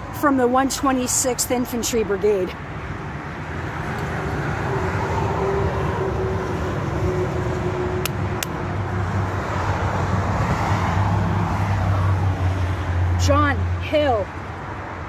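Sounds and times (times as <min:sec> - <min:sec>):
road traffic noise: 0:00.0 - 0:15.0
vehicle engine hum: 0:00.0 - 0:15.0.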